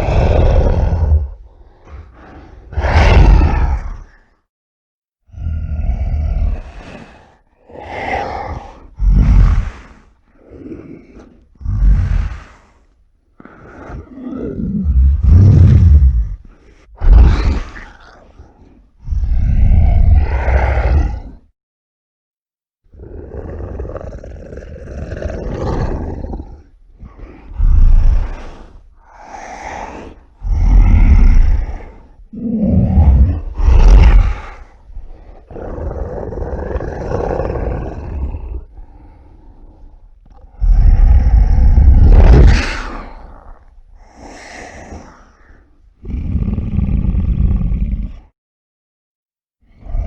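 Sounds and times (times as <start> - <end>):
monster growling roar: 0.0 - 4.2, 5.3 - 9.8, 13.4 - 21.4, 23.0 - 48.3, 49.8 - 50.0.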